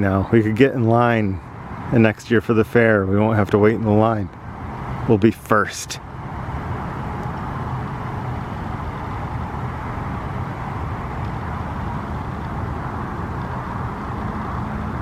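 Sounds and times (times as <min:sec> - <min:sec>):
motor vehicle rumbling: 0:00.0 - 0:15.0.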